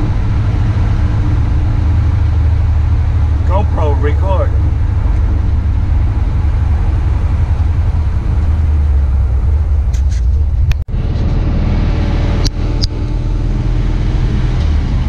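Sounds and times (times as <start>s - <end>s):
wind noise on microphone: 0.0s - 3.6s, 4.3s - 15.0s
car engine low rumble: 0.0s - 15.0s.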